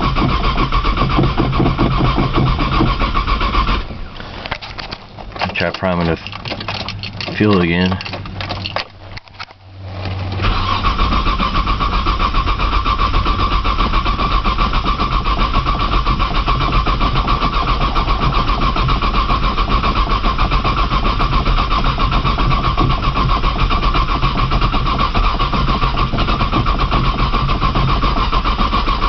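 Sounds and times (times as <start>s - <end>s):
car starter cranking engine: 0.0s - 29.0s.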